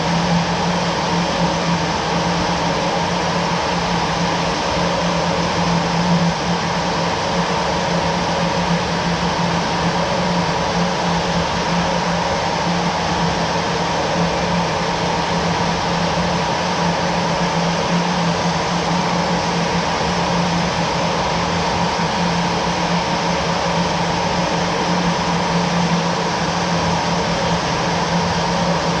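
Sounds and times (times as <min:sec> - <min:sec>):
jet engine drone: 0:00.0 - 0:29.0.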